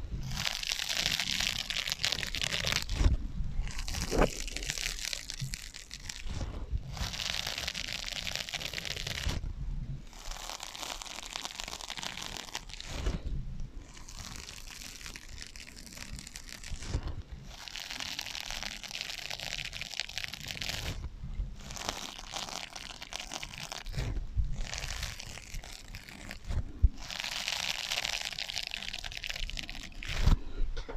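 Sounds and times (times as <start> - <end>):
scratching on sponges: 0.0 - 30.8.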